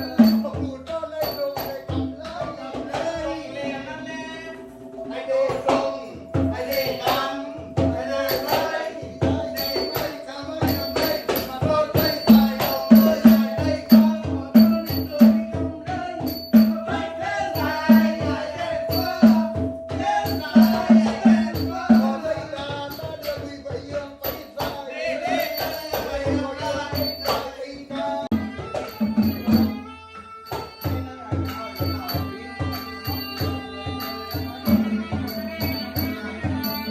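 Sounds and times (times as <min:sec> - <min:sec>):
small cymbal rings: 0:00.0 - 0:02.7, 0:04.3 - 0:36.9
drum strokes: 0:00.0 - 0:36.9
held melody line: 0:00.0 - 0:36.9.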